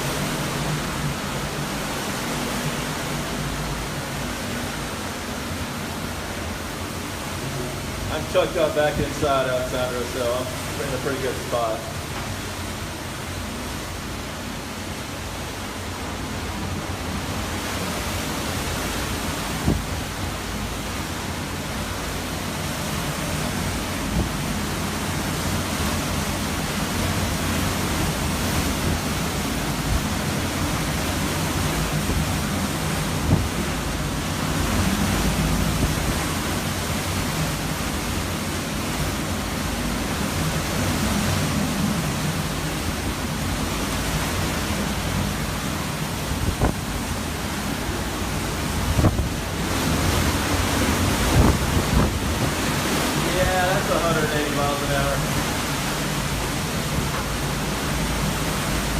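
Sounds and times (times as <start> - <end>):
wind and rain rushing: 0.0 - 58.9.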